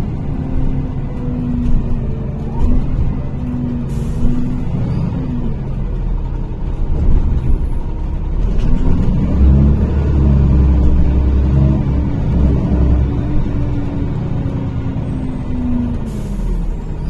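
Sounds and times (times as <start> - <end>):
bus engine rumble with whine: 0.0 - 17.0.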